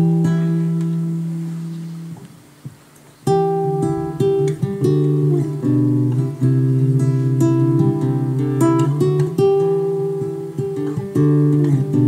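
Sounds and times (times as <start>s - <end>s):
acoustic guitar chords strummed: 0.0s - 2.3s, 3.2s - 12.0s.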